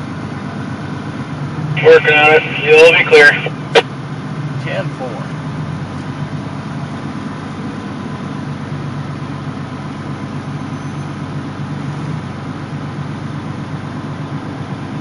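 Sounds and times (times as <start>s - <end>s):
rolling road noise: 0.0s - 15.0s
truck engine drone: 0.0s - 15.0s.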